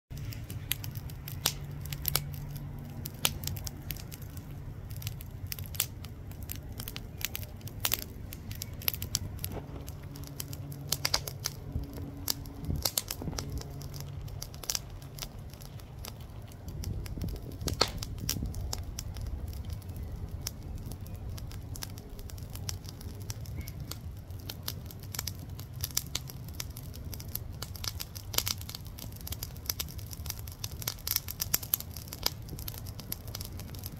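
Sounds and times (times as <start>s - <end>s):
charcoal crackling and popping: 0.1s - 33.9s
low background rumble: 0.1s - 33.9s.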